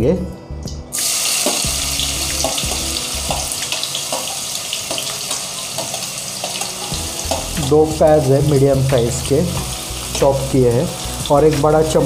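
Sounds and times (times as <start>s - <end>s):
onions sizzling in hot oil: 0.9s - 11.7s.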